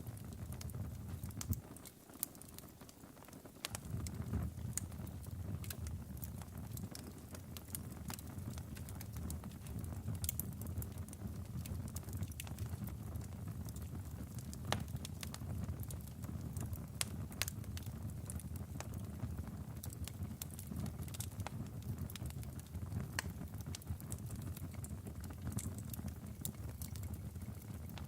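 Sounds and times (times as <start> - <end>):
logs crackling and popping: 0.0 - 28.0
low rumble of flames: 0.0 - 28.0.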